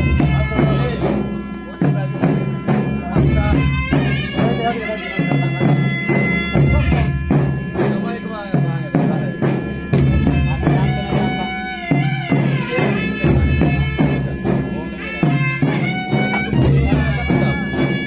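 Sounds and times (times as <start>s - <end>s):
barrel drum beating: 0.0s - 18.0s
shrill reed pipe melody: 0.0s - 18.0s.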